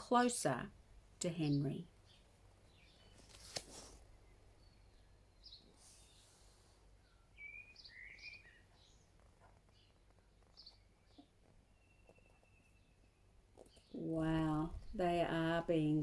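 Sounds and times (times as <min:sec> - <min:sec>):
faint bird chirps: 0:01.2 - 0:14.9.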